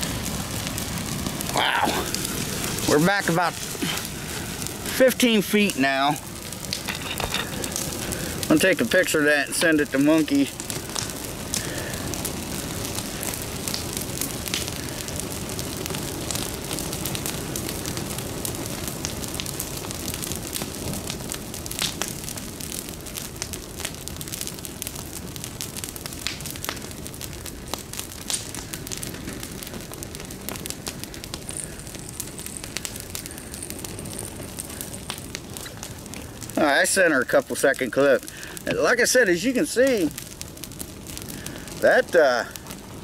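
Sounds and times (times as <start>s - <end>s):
burning branches crackling and popping: 0.0s - 43.0s
rush of flames: 0.0s - 43.0s.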